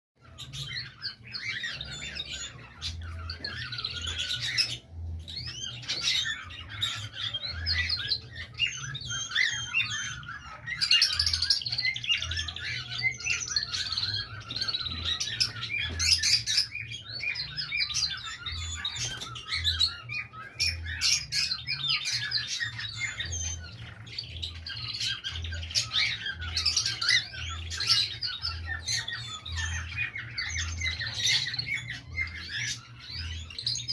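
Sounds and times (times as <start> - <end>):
birds chattering and squawking: 0.2 - 33.9.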